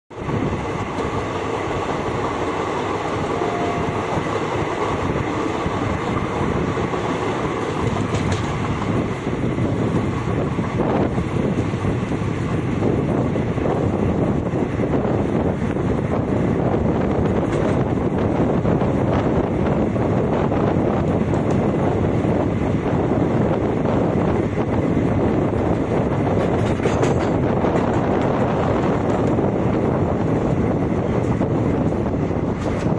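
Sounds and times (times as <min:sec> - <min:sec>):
rushing air: 0:00.1 - 0:32.9
train wheels rumbling on rails: 0:00.1 - 0:32.9.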